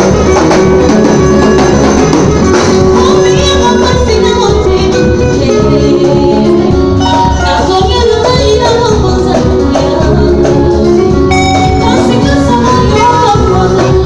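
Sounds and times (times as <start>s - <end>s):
bass guitar: 0.0s - 14.0s
drum kit playing: 0.0s - 14.0s
electric guitar: 0.0s - 14.0s.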